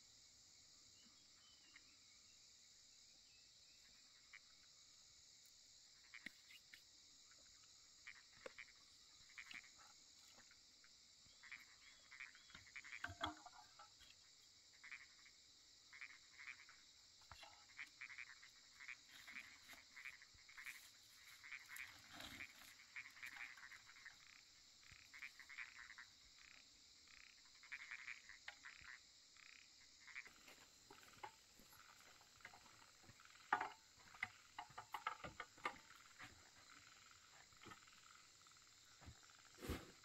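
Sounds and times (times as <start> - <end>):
frogs calling faintly: 0.0 - 40.0.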